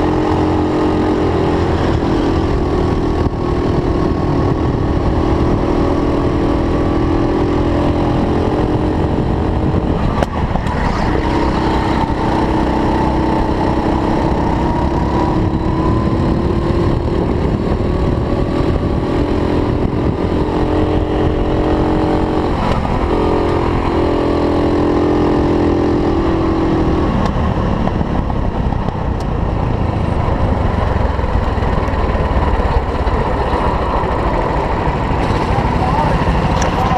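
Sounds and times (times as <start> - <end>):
racing kart engine: 0.0 - 36.9
wind noise: 0.0 - 36.9.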